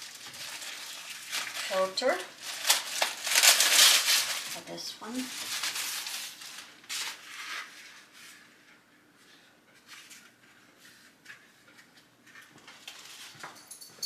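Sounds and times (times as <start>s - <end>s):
air filter rustling and scraping: 0.0s - 13.7s.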